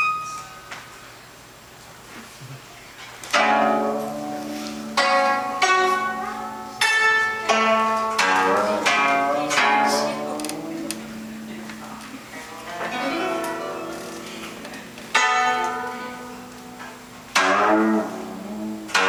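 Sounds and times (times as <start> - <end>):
plucked zither notes: 3.2 - 19.0.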